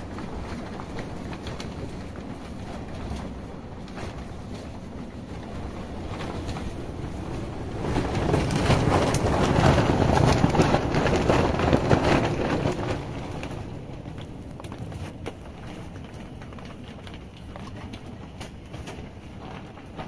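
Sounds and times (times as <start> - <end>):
storm wind buffeting microphone: 0.0 - 20.0.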